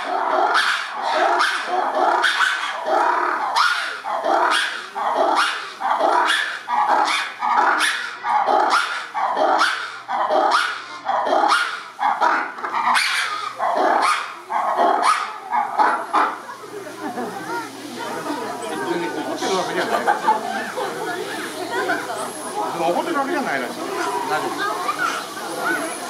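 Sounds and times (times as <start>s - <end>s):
lemurs barking cries: 0.0s - 26.0s.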